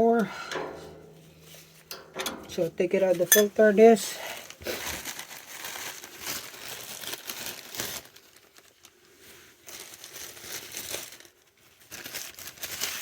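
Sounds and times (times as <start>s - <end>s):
plastic sheeting crinkling: 2.5s - 13.0s.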